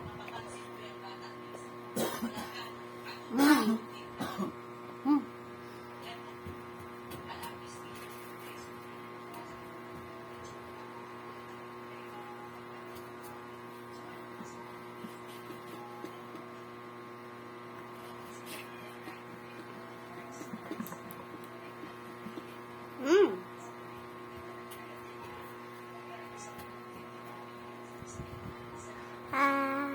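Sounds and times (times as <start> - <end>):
electrical hum: 0.0 - 29.9.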